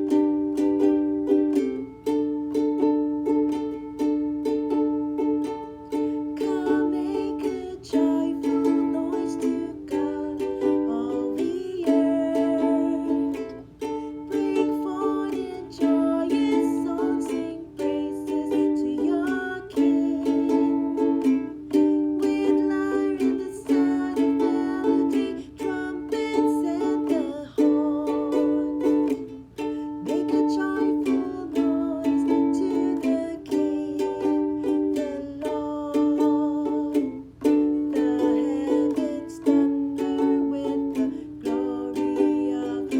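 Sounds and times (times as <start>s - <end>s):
plucked string instrument: 0.0s - 42.9s.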